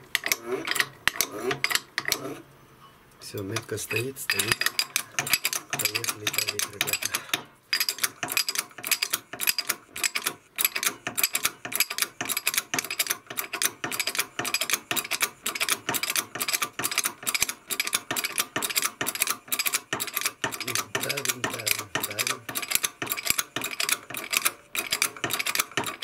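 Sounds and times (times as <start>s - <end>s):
press tool rapid clicking: 3.5s - 26.0s.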